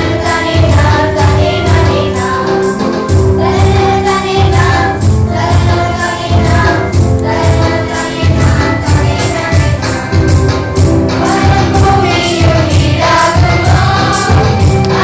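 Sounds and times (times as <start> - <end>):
accompaniment with low beat: 0.0 - 15.0
children and women singing: 0.0 - 15.0.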